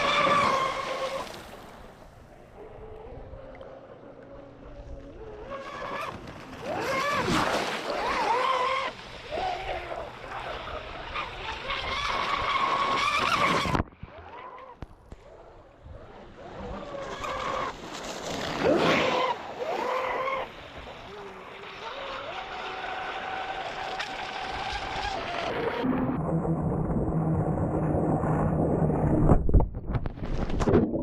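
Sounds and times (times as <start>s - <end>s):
model boat motor passing: 0.0s - 1.8s, 2.6s - 26.1s.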